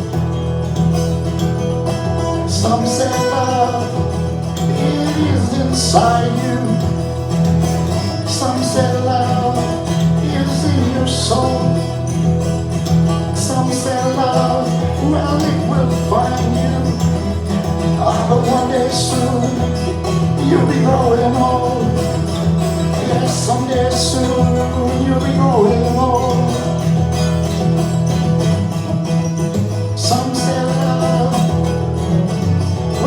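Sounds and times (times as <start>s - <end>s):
country song on guitar and bass: 0.0s - 33.0s.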